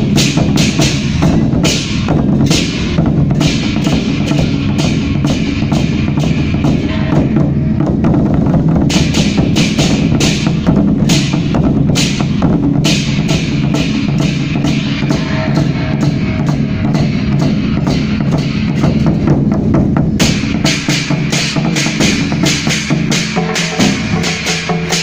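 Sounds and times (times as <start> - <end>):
cymbal clashes: 0.0 - 7.9, 8.8 - 25.0
big drums beating: 0.0 - 25.0.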